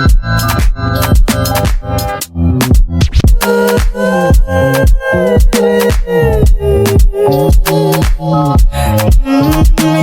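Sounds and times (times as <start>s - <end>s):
afrobeat dance music: 0.0s - 10.0s.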